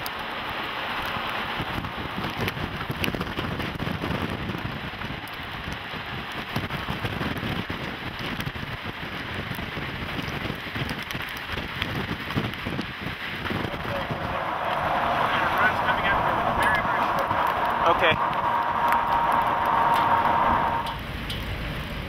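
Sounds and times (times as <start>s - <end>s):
rain and wind rushing: 0.0s - 22.0s.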